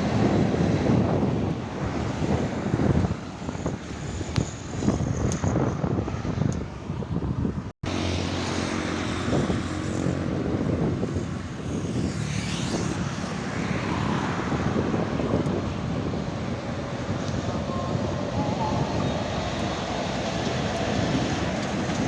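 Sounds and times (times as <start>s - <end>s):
truck diesel engines passing: 0.0s - 7.0s, 7.8s - 22.0s
road noise rushing: 0.0s - 22.0s.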